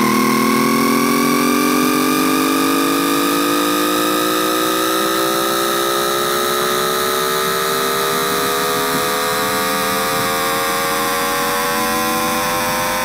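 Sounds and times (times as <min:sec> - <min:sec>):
electronic inverter whine rising: 0:00.0 - 0:13.0
steady high tone: 0:00.0 - 0:13.0.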